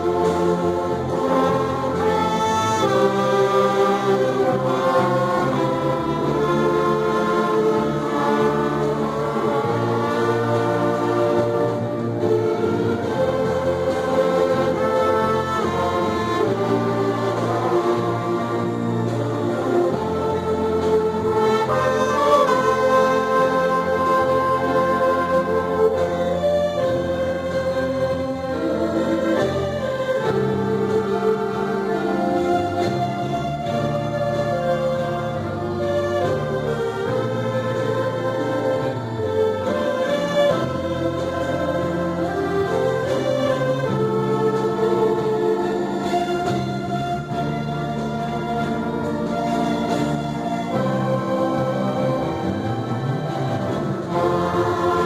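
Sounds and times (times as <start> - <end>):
brass melody: 0.0 - 55.0
orchestra playing a hymn: 0.0 - 55.0.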